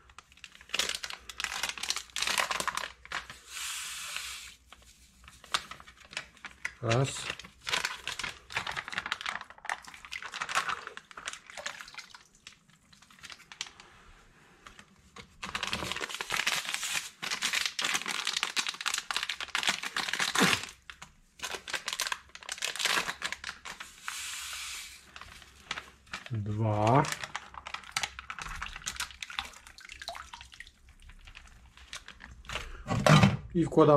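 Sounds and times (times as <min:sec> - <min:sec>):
packet crinkling and rustling: 0:00.0 - 0:13.9, 0:14.6 - 0:32.9.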